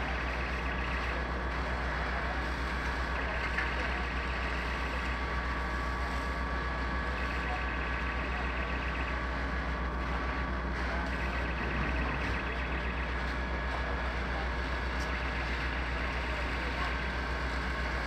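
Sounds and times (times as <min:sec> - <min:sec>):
fire engine pump running: 0:00.0 - 0:18.0.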